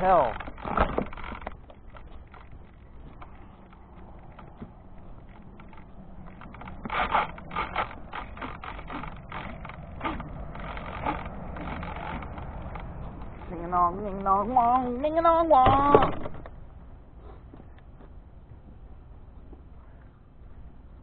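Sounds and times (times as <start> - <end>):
low handling rumble: 0.0 - 21.0.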